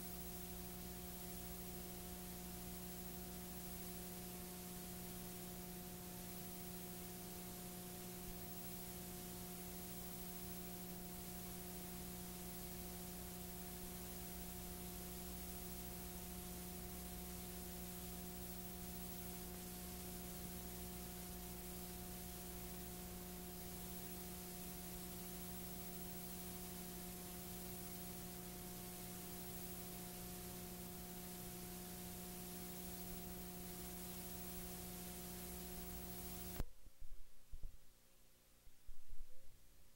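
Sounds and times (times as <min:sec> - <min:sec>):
electrical hum: 0:00.0 - 0:37.8
constant hiss: 0:00.0 - 0:39.9.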